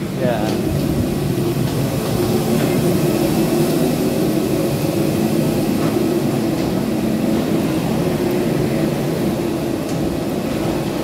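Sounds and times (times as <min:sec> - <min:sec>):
airliner machinery drone: 0:00.0 - 0:11.0.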